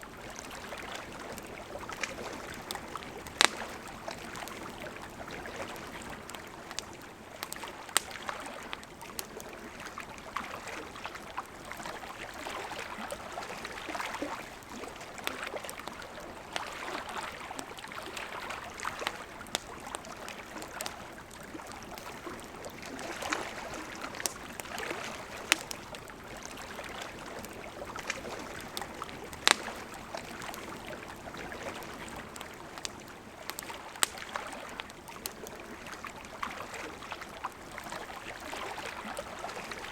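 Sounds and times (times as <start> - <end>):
campfire crackling and popping: 0.0 - 39.9
flowing river water: 0.0 - 39.9.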